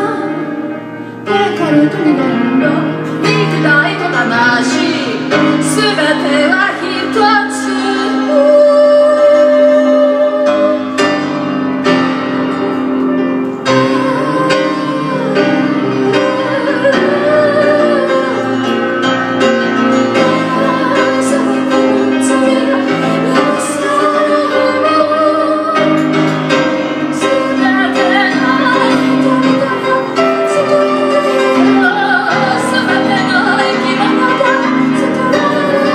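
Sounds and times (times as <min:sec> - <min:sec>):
woman singing with vibrato: 0:00.0 - 0:11.1, 0:13.6 - 0:35.9
grand piano playing: 0:00.0 - 0:35.9.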